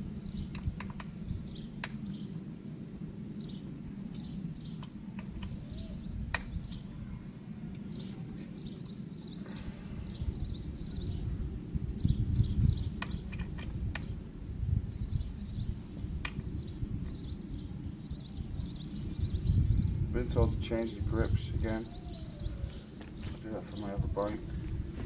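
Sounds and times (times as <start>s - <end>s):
steady low rumble: 0.0s - 25.0s
small birds chirping: 0.1s - 25.0s.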